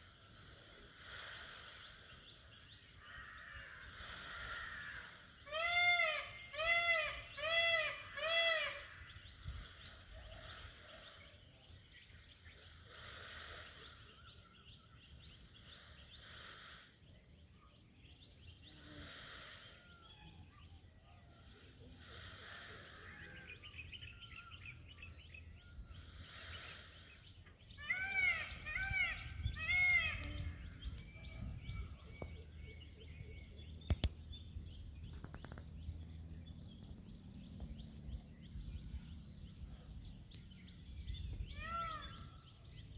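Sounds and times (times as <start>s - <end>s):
outdoor background noise: 0.0s - 42.9s.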